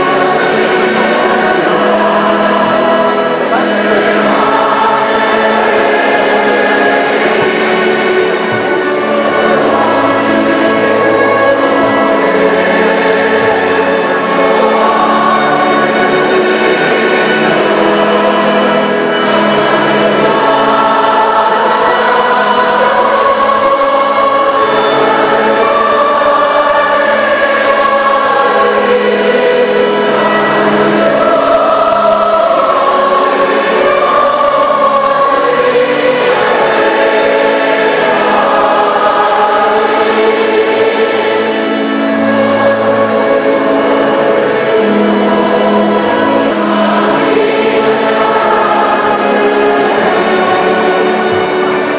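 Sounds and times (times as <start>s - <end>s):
choir singing a hymn: 0.0s - 51.9s.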